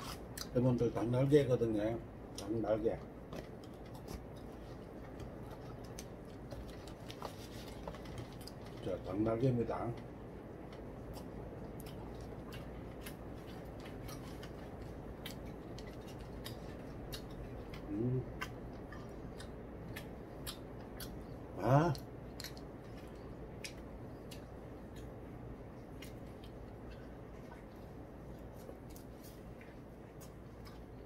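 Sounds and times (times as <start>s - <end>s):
faint room hum: 0.0s - 31.0s.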